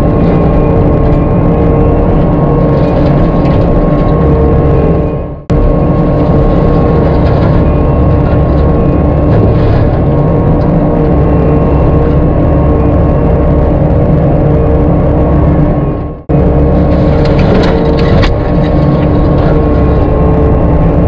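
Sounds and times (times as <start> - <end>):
mulcher whine: 0.0 - 21.0
skid steer engine drone: 0.0 - 21.0.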